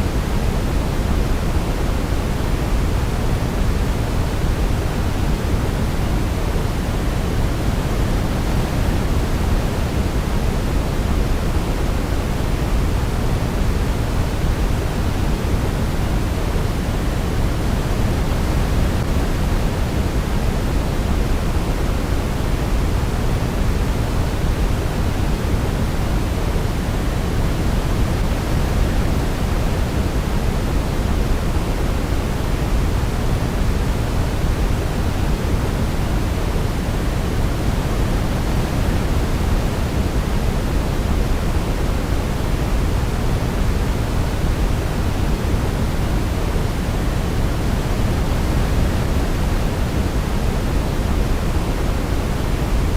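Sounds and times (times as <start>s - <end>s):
deep steady noise: 0.0s - 52.9s.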